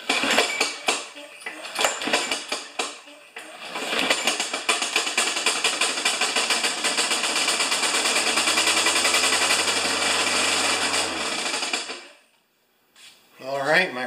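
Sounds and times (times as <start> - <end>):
lawn mower engine clattering: 0.0 - 12.2.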